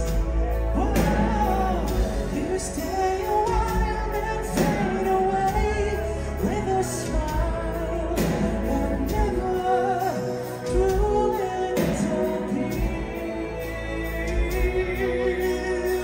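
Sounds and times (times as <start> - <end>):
metal band playing live: 0.0 - 16.0
person singing: 0.0 - 16.0.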